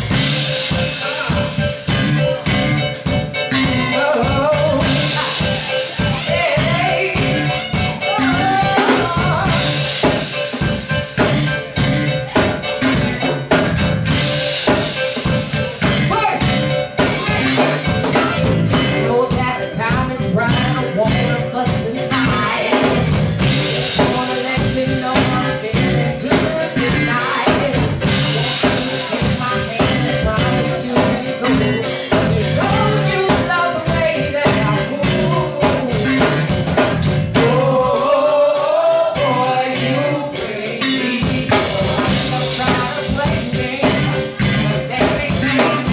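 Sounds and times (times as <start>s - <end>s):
drum kit: 0.0s - 45.9s
electric bass guitar: 0.0s - 45.9s
keyboard: 0.0s - 45.9s
person singing: 0.0s - 45.9s.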